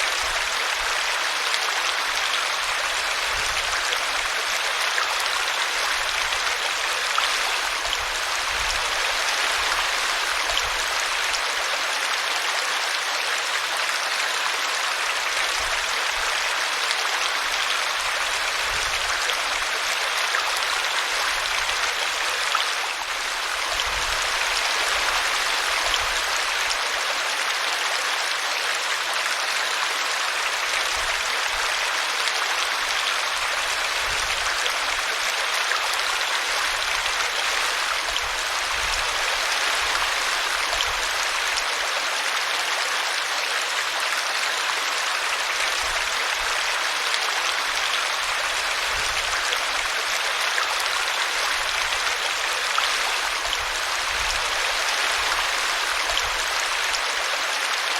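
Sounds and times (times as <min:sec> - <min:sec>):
brook babbling: 0:00.0 - 0:57.9.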